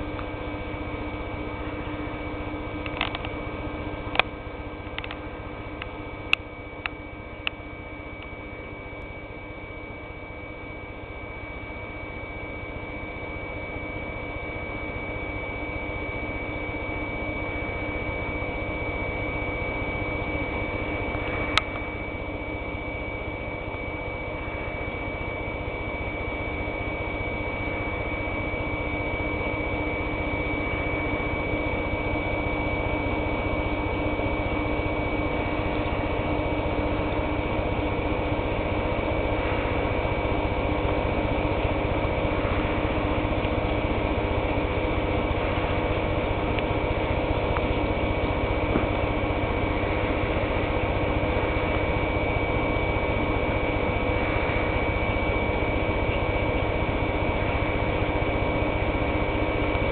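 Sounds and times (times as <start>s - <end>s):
machine hum and hiss: 0.0s - 59.9s
thin high whine: 0.0s - 59.9s.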